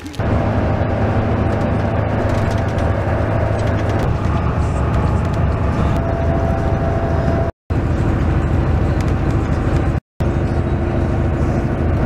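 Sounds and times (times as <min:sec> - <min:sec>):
bus road and engine rumble: 0:00.0 - 0:12.0.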